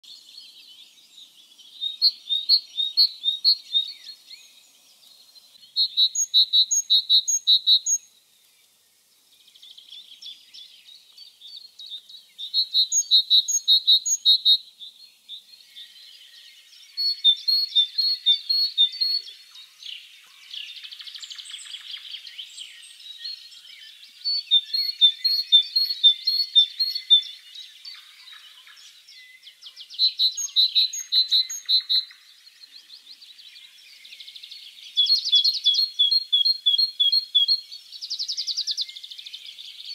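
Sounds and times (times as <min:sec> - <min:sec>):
great tit singing: 0:00.0 - 0:08.8, 0:09.4 - 0:39.9.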